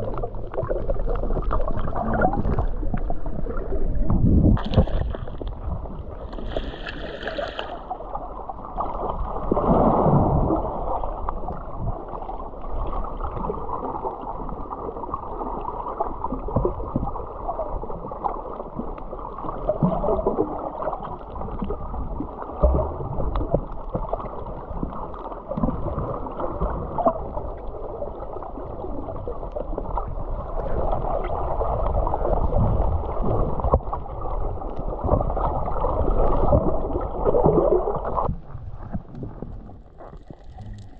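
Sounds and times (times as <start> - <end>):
muffled underwater water sloshing: 0.0 - 40.9.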